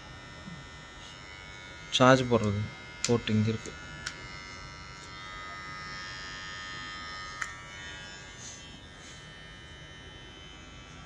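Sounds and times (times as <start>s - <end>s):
beard trimmer motor buzzing: 0.0s - 11.0s.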